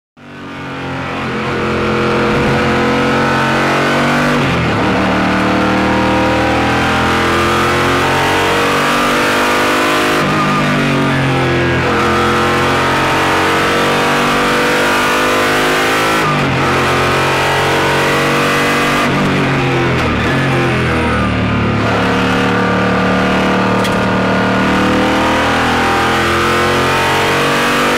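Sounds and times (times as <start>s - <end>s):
racing car engine at speed: 0.2s - 27.9s.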